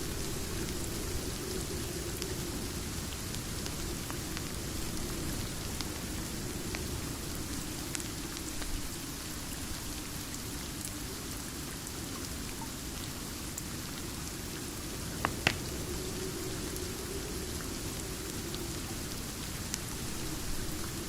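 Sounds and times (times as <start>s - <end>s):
faint ticks of raindrops: 0.0s - 21.0s
steady rain falling: 0.0s - 21.0s.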